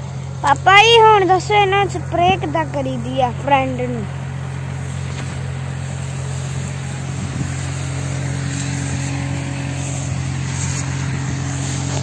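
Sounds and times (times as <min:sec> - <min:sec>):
sprayer engine humming: 0:00.0 - 0:12.0.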